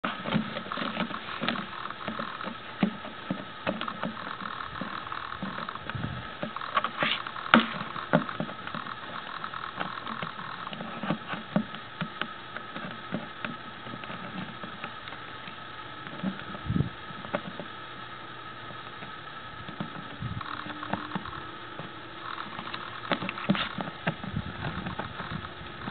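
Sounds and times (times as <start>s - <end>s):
plastic pot knocking and scraping: 0.0s - 15.2s, 19.7s - 25.9s
steady faint whine: 0.0s - 25.9s.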